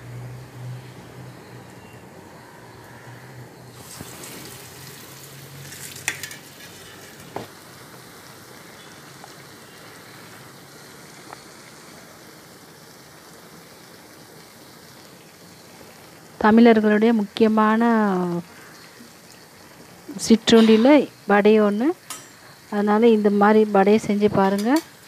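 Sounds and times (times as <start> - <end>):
fritters sizzling in hot oil: 0.0 - 25.0.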